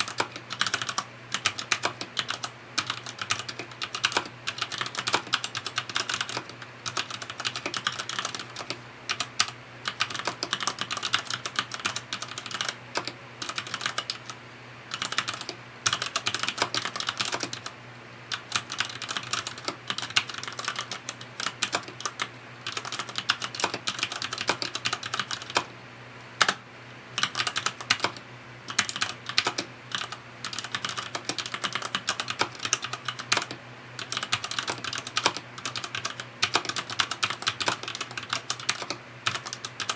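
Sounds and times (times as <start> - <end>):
mechanical keyboard typing: 0.0 - 17.7, 18.4 - 25.7, 26.4 - 26.6, 27.2 - 39.9.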